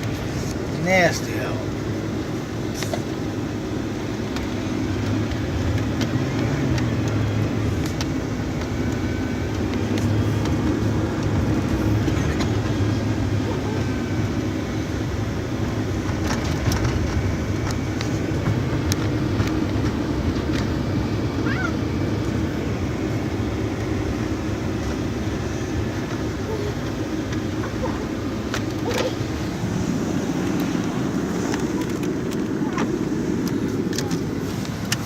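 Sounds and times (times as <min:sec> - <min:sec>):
van engine and road noise: 0:00.0 - 0:35.0.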